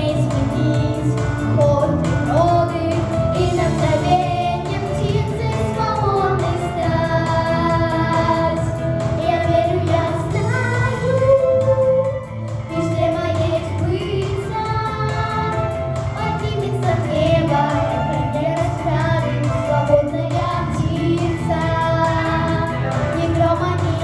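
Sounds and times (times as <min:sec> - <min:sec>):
backing track: 0:00.0 - 0:24.0
girls singing pop song: 0:00.0 - 0:24.0.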